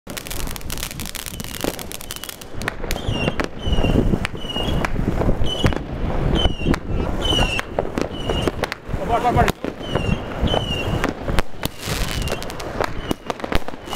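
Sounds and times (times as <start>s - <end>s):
fireworks crackling and banging: 0.1s - 13.9s
firework whistles: 0.2s - 13.9s.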